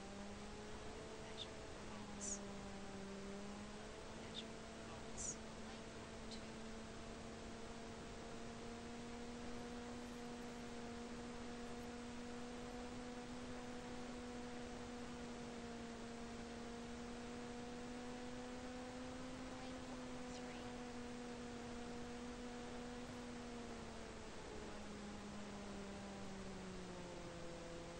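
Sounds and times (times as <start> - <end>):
electric motor and propeller hum: 0.0 - 27.9.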